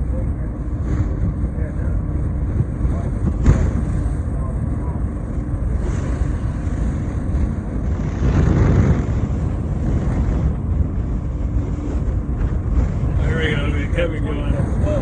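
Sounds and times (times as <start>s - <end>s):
boat engine rumble: 0.0s - 15.0s
wind buffeting microphone: 0.0s - 15.0s.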